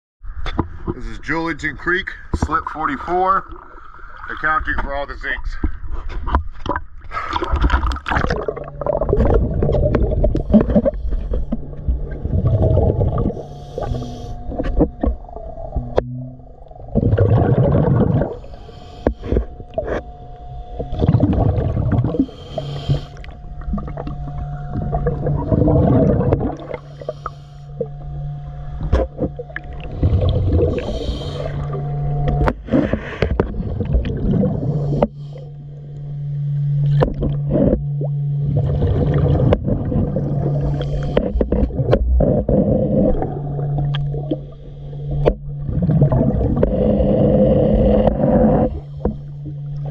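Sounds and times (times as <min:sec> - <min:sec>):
low steady hum: 0:00.2 - 0:49.9
diver exhaust bubbles gurgling: 0:06.6 - 0:35.9, 0:36.8 - 0:49.9.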